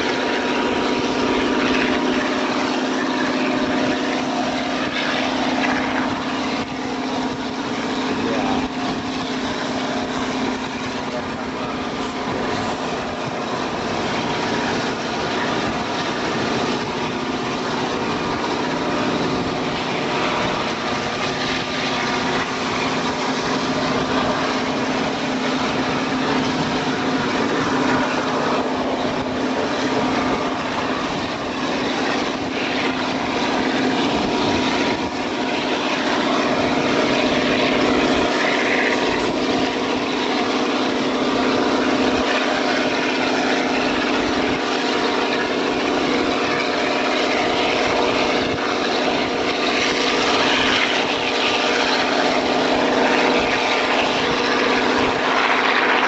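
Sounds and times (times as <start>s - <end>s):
diesel locomotive engine drone: 0.0s - 56.0s
wind and train running noise: 0.0s - 56.0s.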